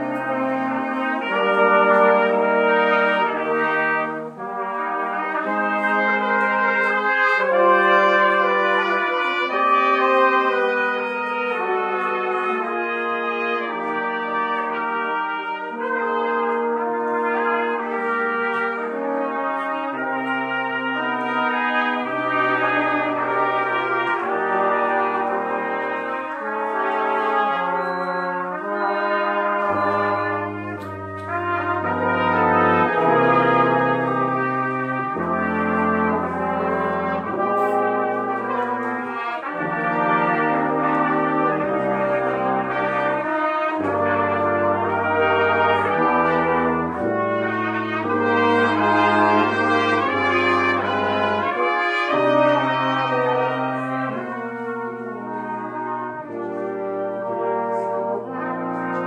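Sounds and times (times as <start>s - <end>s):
brass ensemble playing: 0.0s - 59.0s.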